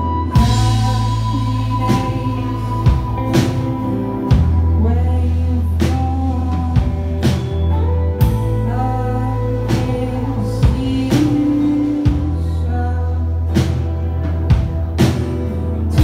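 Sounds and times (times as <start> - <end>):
acoustic guitar: 0.0 - 16.0
bass guitar: 0.0 - 16.0
electric guitars: 0.0 - 16.0.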